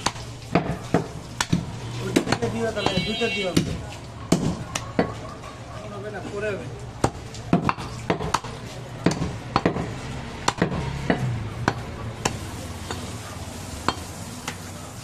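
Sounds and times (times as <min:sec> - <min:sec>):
knife chopping meat on wood block: 0:00.0 - 0:05.2, 0:07.0 - 0:13.1, 0:13.8 - 0:14.6.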